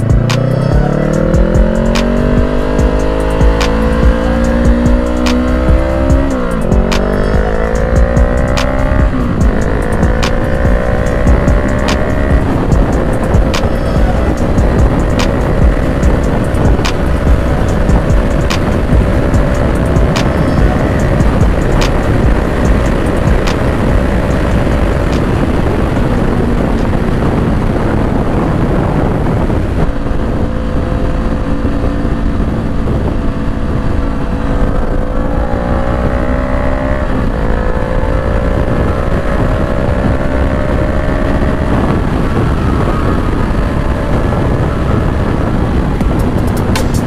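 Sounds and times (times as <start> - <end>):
motorcycle engine accelerating: 0.0 - 47.0
wind rush on microphone: 0.0 - 47.0.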